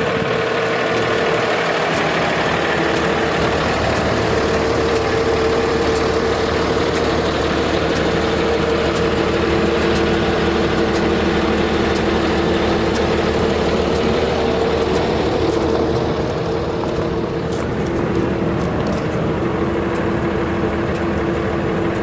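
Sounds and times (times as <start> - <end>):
diesel truck idling: 0.0 - 22.0
steady whine: 0.0 - 22.0.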